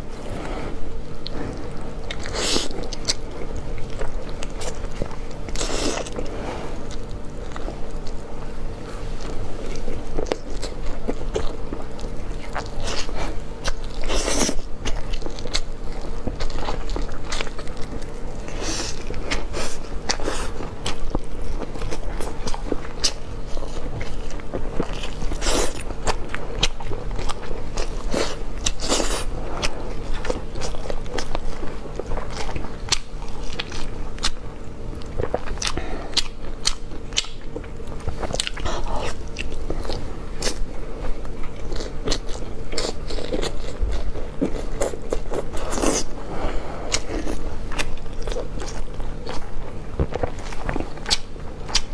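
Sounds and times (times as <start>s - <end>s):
person chewing crunchy food: 0.0s - 51.9s
steady low hum: 0.0s - 51.9s.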